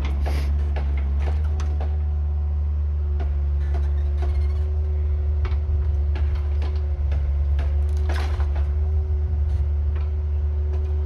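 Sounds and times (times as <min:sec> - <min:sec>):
wood scraping and creaking: 0:00.0 - 0:01.9, 0:03.5 - 0:11.0
mini excavator engine humming: 0:00.0 - 0:11.0.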